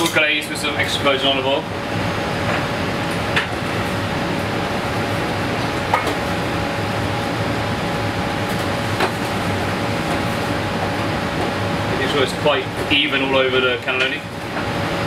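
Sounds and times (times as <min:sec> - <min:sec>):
ventilation rushing and humming: 0:00.0 - 0:15.0.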